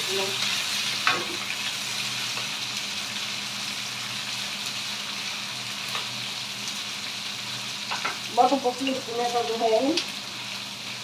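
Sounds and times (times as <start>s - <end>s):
peppers sizzling in oil: 0.0s - 11.0s.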